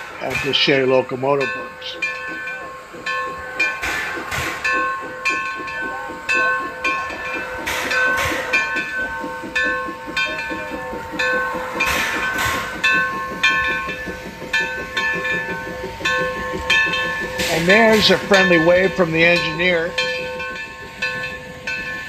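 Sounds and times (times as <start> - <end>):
steam hissing from cylinders: 0.0 - 22.0
steam locomotive exhaust chuffing: 0.0 - 22.0.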